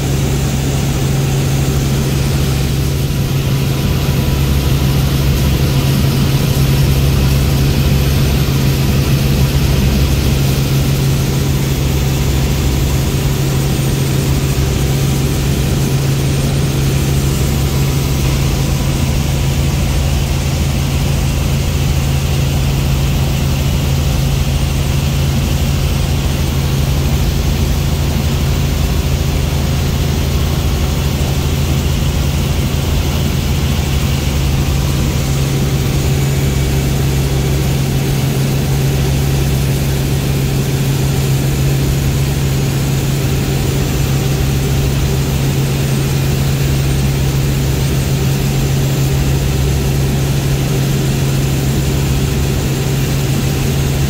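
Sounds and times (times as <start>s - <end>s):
helicopter rotor and engine hum: 0.0s - 54.0s.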